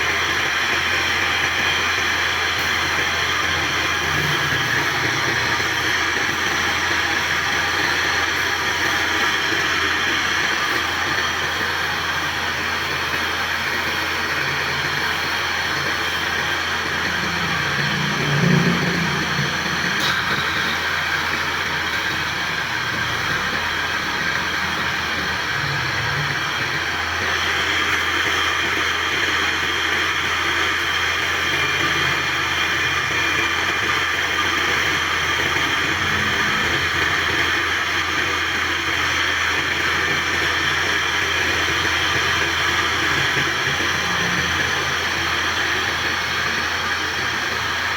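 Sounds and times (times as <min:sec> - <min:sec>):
machine humming and hissing: 0:00.0 - 0:47.9.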